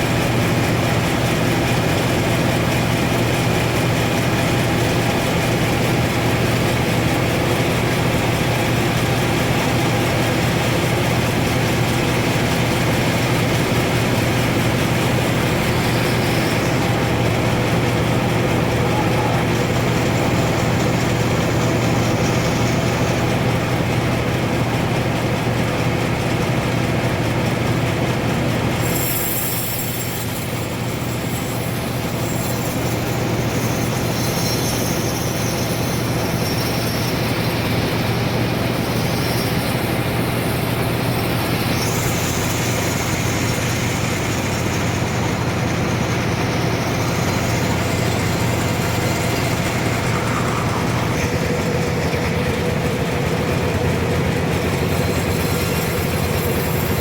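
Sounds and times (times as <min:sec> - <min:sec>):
motor hum: 0:00.0 - 0:57.0
high sawing hiss: 0:00.6 - 0:24.7, 0:28.7 - 0:57.0.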